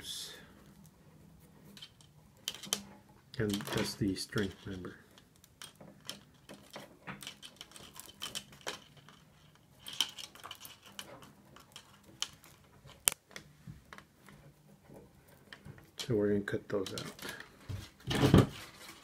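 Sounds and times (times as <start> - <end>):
plastic tubes clicking and rustling: 0.0 - 19.0.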